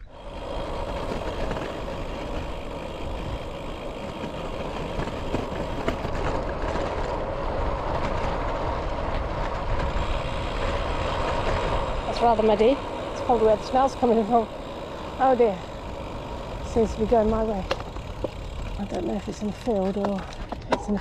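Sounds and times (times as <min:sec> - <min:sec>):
bike tyres rolling on tarmac: 0:00.0 - 0:21.0.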